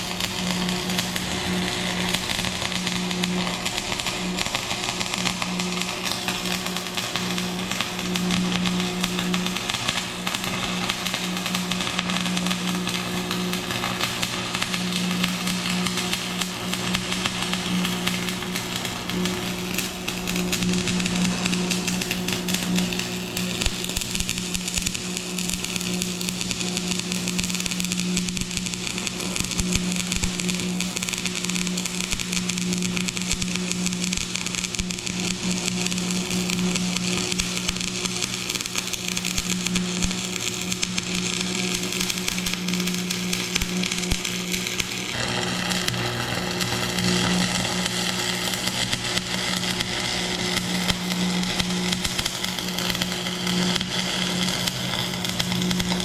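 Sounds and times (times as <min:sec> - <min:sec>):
welding arc crackling and hissing: 0:00.0 - 0:56.0.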